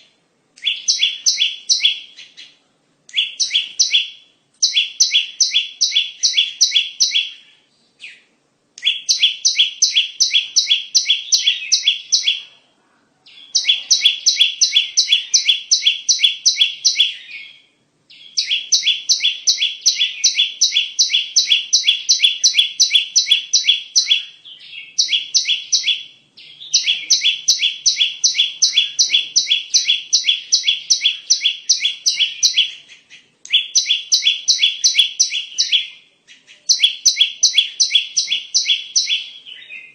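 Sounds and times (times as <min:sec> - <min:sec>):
bird chirping rapidly: 0:00.0 - 0:12.6, 0:13.3 - 0:39.9.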